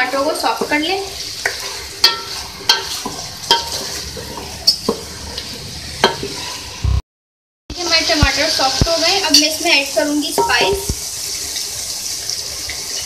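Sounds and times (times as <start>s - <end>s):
chicken and tomatoes sizzling in oil: 0.0s - 6.9s, 7.7s - 13.0s.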